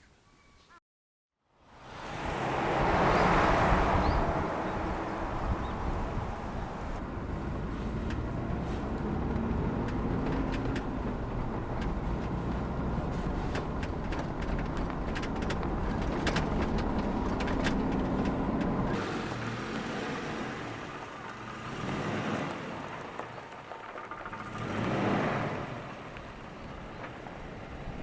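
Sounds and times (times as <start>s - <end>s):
vehicle engine and road noise: 1.4s - 28.0s.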